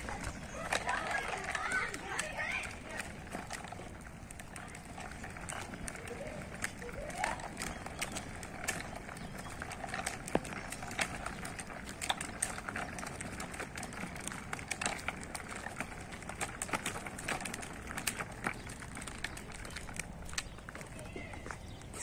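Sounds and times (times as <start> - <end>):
tricycle rattling over asphalt: 0.0 - 22.0.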